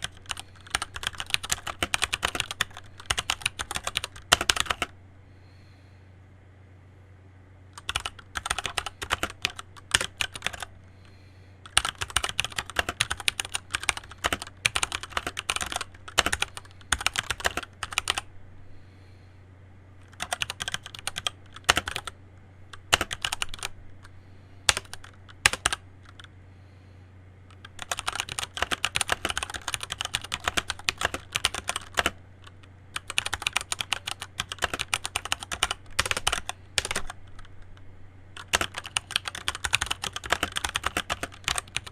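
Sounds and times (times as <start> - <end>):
mechanical keyboard typing: 0.0 - 4.9, 7.8 - 10.7, 11.6 - 18.2, 20.0 - 24.1, 24.7 - 26.3, 27.5 - 37.8, 38.4 - 41.9
faint steady low hum: 0.0 - 41.9.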